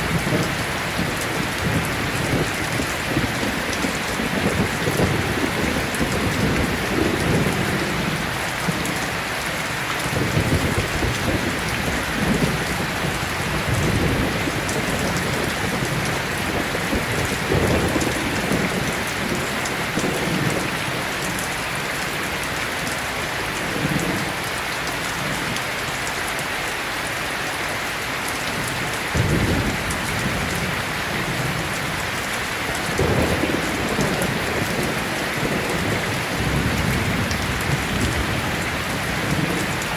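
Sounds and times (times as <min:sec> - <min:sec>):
thunder rumbling: 0:00.0 - 0:21.5, 0:29.1 - 0:39.9
heavy rain hissing: 0:00.0 - 0:39.9.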